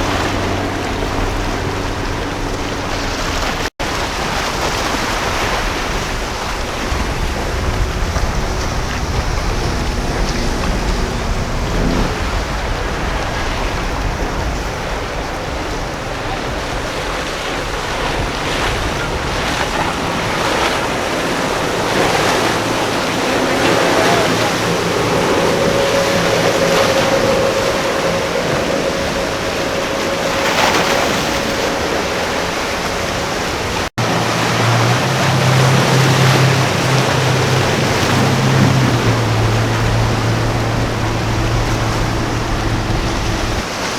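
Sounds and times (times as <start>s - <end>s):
boat engine drone: 0.0s - 43.9s
low engine hum: 0.0s - 43.9s
surf: 0.0s - 43.9s
wind buffeting microphone: 0.0s - 43.9s.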